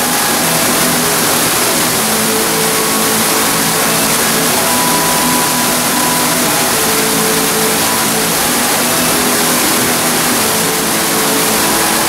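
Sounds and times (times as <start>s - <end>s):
waterfall pouring into basin: 0.0s - 12.0s.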